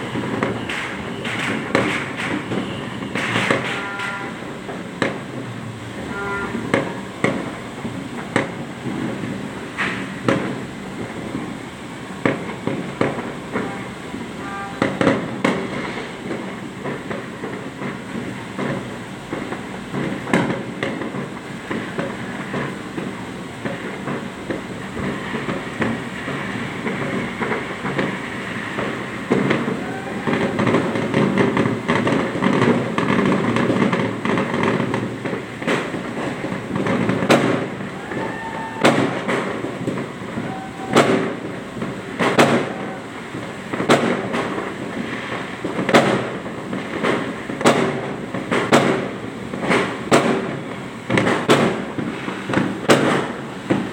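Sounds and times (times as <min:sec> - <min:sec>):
firecracker bangs: 0:00.0 - 0:53.9
fireworks crackling and popping: 0:00.0 - 0:53.9.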